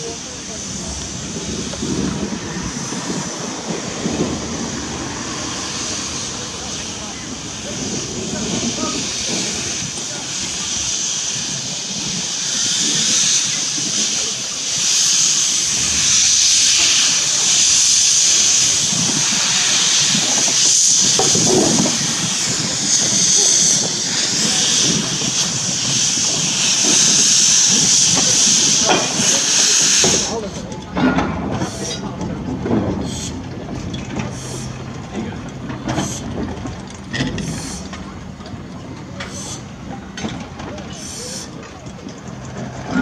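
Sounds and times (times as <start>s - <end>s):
wagon wheels rumbling and knocking: 0.0s - 10.6s, 18.3s - 29.3s, 30.1s - 43.0s
loud steam hiss: 0.0s - 43.0s.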